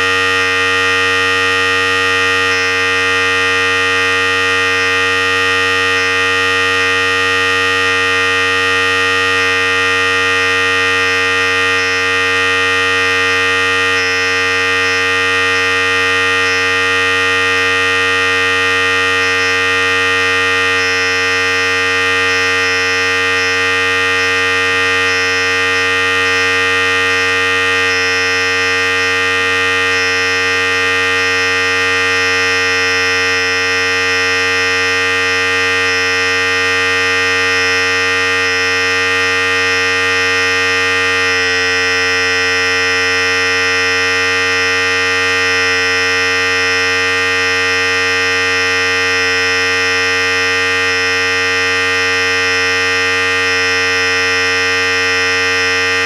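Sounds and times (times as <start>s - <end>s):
hair clipper buzzing: 10.4s - 56.0s.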